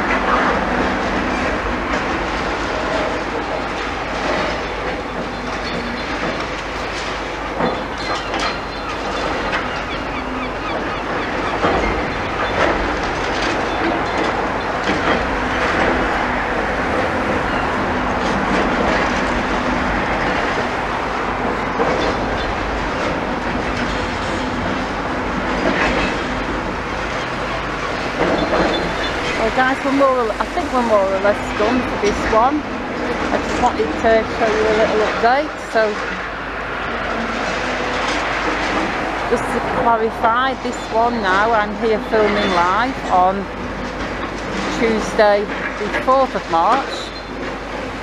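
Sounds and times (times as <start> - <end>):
excavator engine rumble: 0.0 - 48.0.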